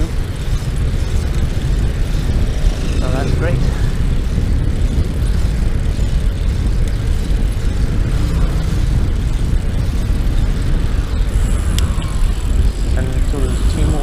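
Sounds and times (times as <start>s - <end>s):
road traffic: 0.0s - 14.0s
wind buffeting microphone: 0.0s - 14.0s.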